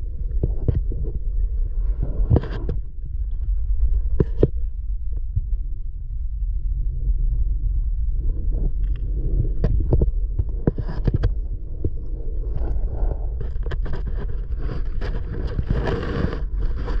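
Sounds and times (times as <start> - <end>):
low underwater rumble: 0.0 - 17.0
underwater clicks and crackles: 0.0 - 17.0.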